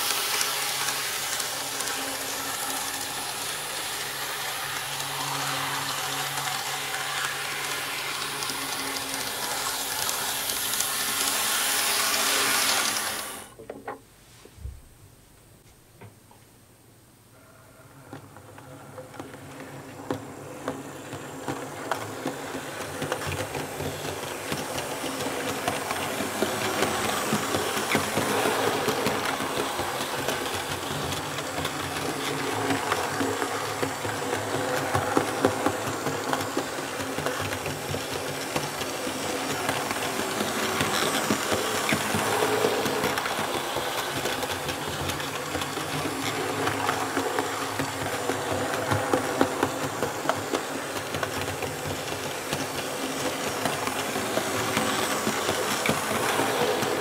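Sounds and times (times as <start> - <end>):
model train rolling rattle: 0.0 - 13.5, 18.2 - 57.0.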